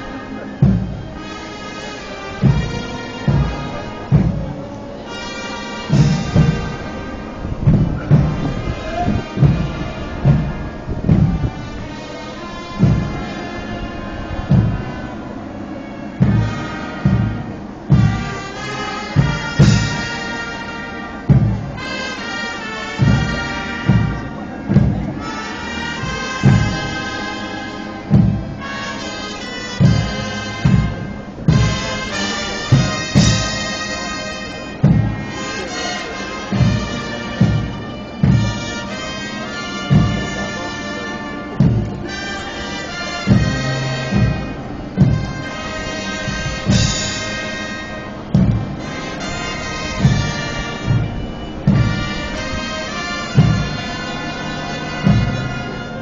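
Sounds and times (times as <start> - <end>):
heavy drum beats: 0.0 - 56.0
sustained wind instruments: 0.0 - 56.0.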